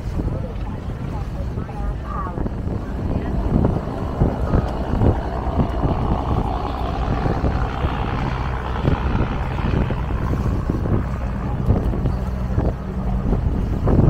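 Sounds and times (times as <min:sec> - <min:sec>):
boat engine running: 0:00.0 - 0:14.0
water and wind rushing: 0:00.0 - 0:14.0
wind thumps on microphone: 0:00.0 - 0:14.0.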